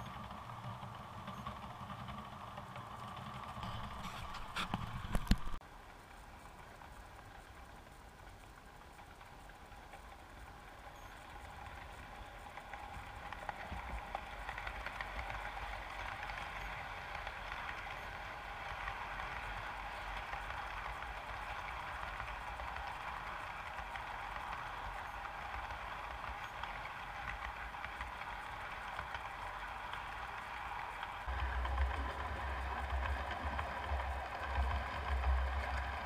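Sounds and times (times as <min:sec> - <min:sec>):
model train wheels rolling on rails: 0:00.0 - 0:36.0.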